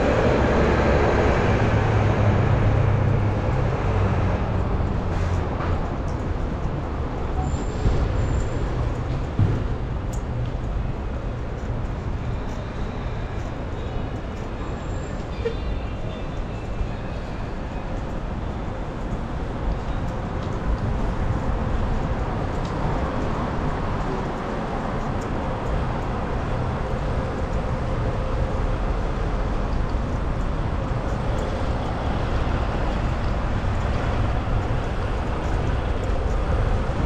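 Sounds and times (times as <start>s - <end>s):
street traffic: 0.0s - 37.0s.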